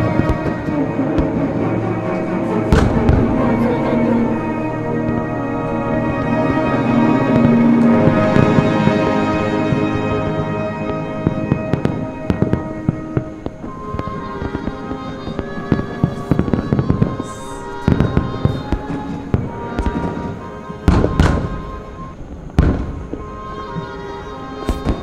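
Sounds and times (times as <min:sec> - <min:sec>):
fireworks bangs and crackles: 0:00.0 - 0:25.0
orchestral music: 0:00.0 - 0:25.0.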